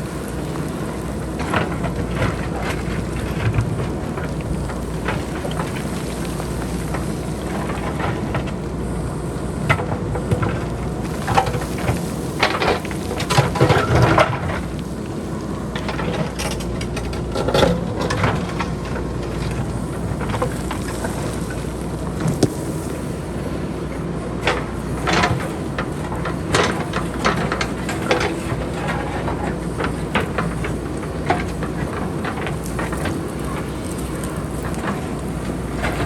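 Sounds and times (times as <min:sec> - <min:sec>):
rocks clattering downhill: 0:00.0 - 0:23.6, 0:24.4 - 0:36.0
diesel engine running: 0:00.0 - 0:36.0.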